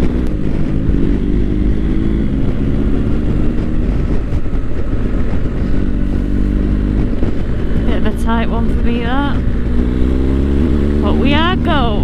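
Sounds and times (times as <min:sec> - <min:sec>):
motorcycle engine cruising: 0:00.0 - 0:12.0
wind noise on microphone: 0:00.0 - 0:12.0.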